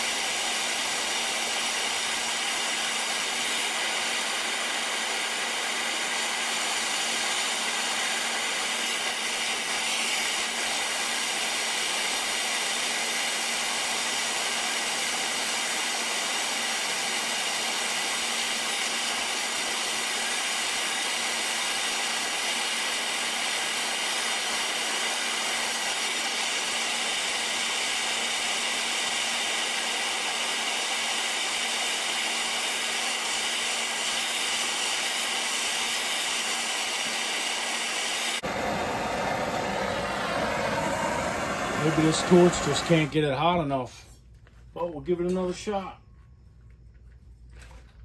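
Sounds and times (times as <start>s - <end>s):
gas torch hissing: 0.0s - 44.0s.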